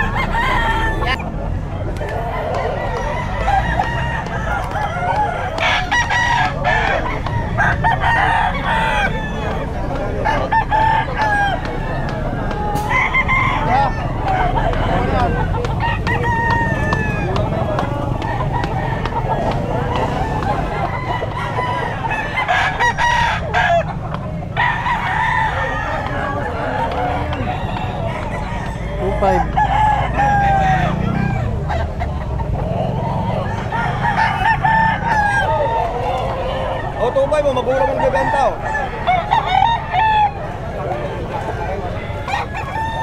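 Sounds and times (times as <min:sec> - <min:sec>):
chickens clucking: 0:00.0 - 0:43.0
roosters crowing: 0:00.0 - 0:43.0.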